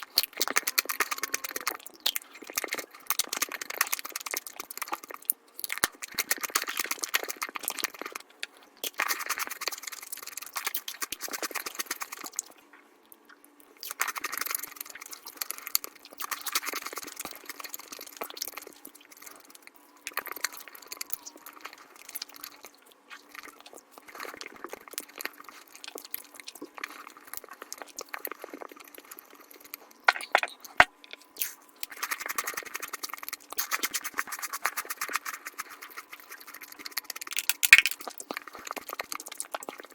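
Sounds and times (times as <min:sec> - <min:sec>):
sped-up chewing and crunching: 0:00.0 - 0:39.9.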